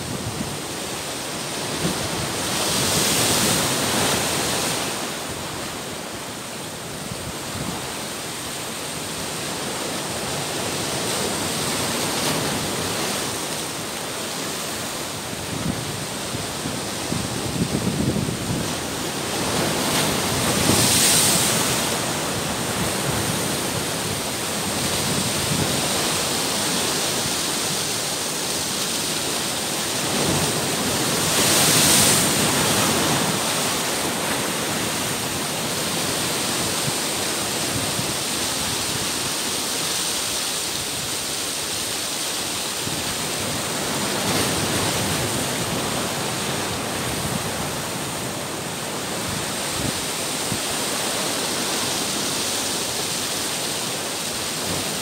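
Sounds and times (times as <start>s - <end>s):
ocean surf breaking against rocks: 0.0s - 55.0s.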